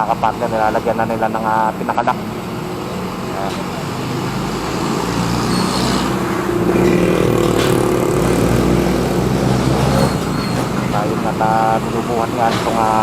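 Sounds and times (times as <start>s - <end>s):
street traffic noise: 0.0s - 13.0s
vehicle engine running: 0.0s - 13.0s.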